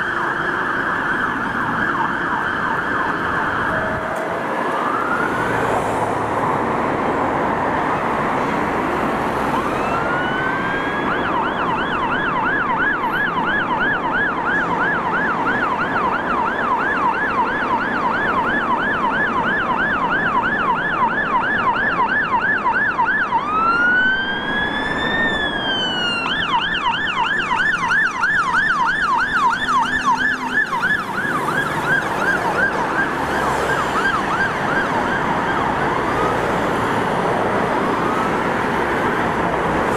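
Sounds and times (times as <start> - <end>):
city traffic noise: 0.0 - 39.9
fire engine siren: 0.0 - 39.9.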